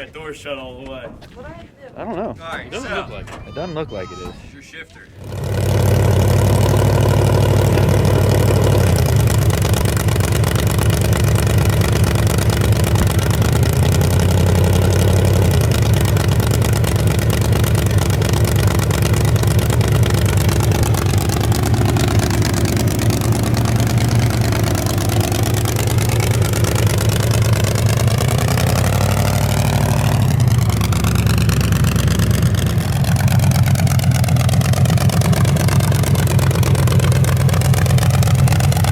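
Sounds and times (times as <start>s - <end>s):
truck engine running loud: 5.2s - 38.9s.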